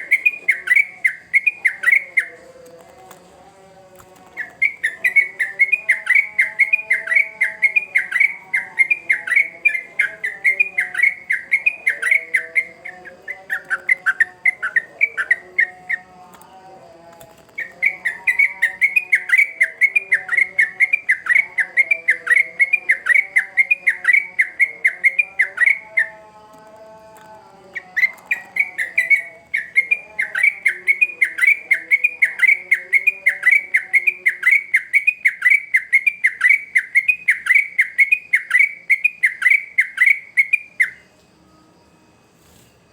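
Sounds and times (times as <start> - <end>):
bird whistled chirps: 0.0 - 2.4, 4.4 - 16.1, 17.6 - 26.2, 27.8 - 41.0.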